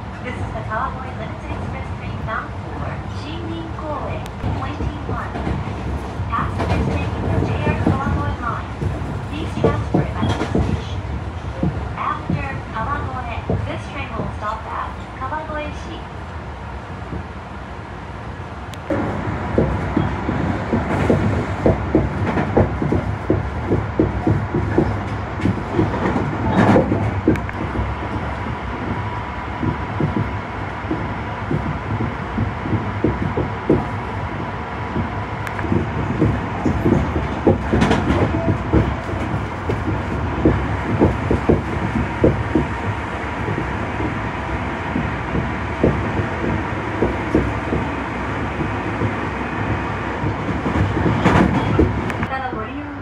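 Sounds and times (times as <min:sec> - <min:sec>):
train wheels rumbling on rail: 0:00.0 - 0:53.0
clacks over rail joints: 0:04.2 - 0:15.1, 0:18.7 - 0:52.8.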